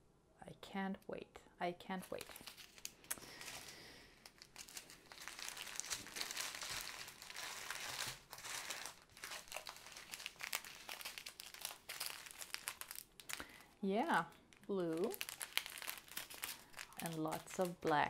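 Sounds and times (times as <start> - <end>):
plastic bags crinkling: 2.1 - 18.0.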